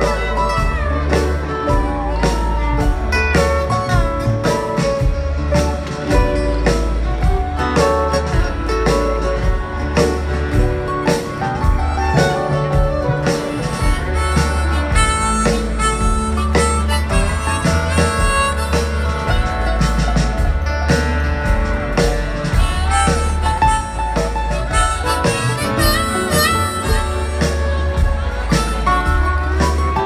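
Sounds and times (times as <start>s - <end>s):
folk-rock band playing: 0.0s - 30.0s
harmonica melody: 0.0s - 30.0s.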